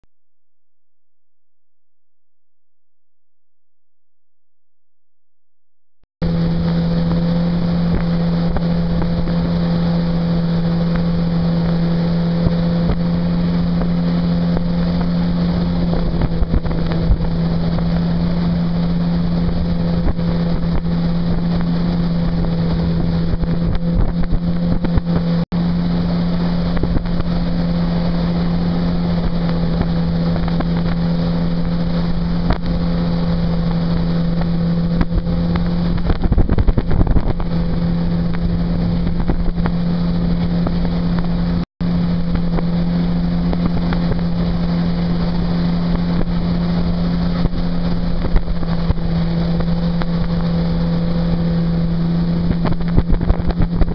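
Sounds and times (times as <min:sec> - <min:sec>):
outboard motor droning: 0:06.2 - 0:53.9
wind buffeting microphone: 0:06.2 - 0:53.9.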